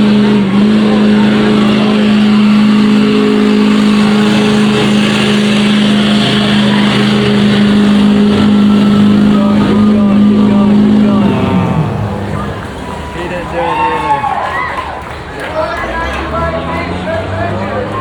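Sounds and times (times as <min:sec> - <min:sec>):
truck engine at high revs: 0:00.0 - 0:18.0.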